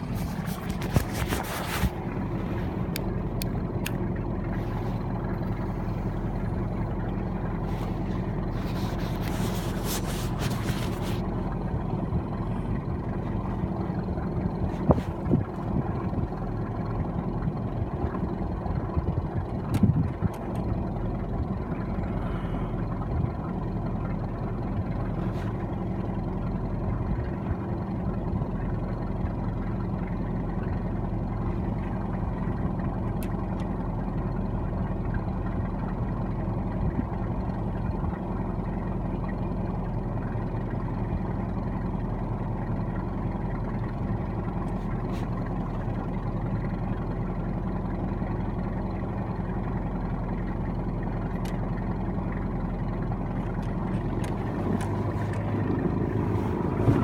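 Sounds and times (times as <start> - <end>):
motorboat engine humming: 0.0 - 57.0.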